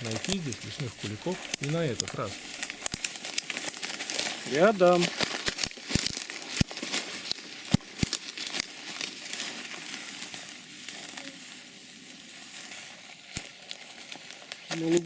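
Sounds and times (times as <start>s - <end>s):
dry grass rustling and crackling: 0.0s - 15.0s.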